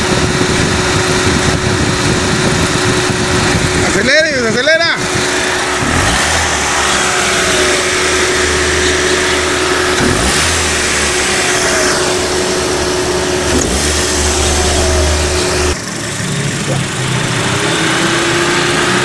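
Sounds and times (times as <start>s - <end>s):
car engine revving: 0.0s - 19.0s
steady engine whine: 0.0s - 19.0s.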